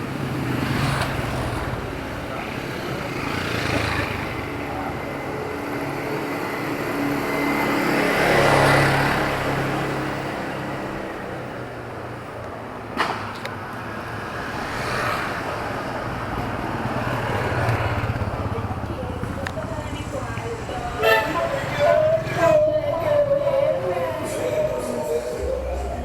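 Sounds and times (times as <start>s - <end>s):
vehicle passing by: 0.0s - 12.9s, 13.5s - 26.0s
vehicle approaching: 0.0s - 26.0s.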